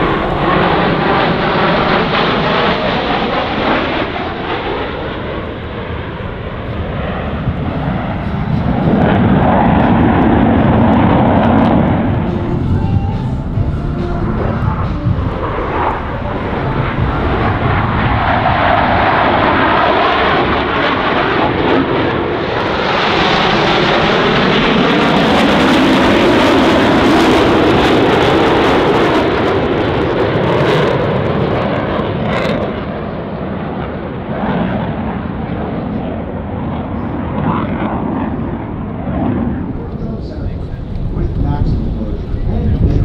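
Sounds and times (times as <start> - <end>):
jets flying past: 0.0 - 43.0.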